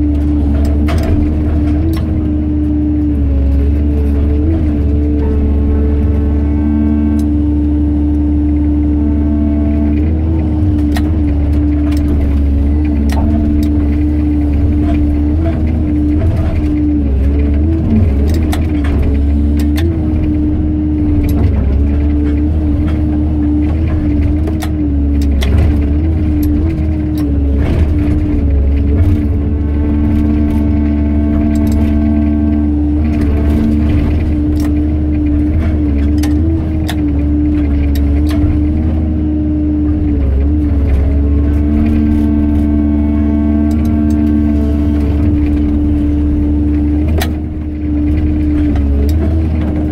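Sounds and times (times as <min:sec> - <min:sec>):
excavator engine and hydraulics humming: 0:00.0 - 0:49.9.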